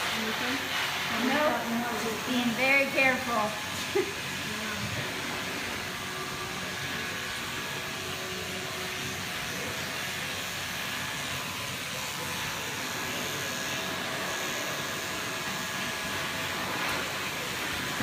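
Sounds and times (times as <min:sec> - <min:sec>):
dog grooming equipment hissing: 0:00.0 - 0:18.0.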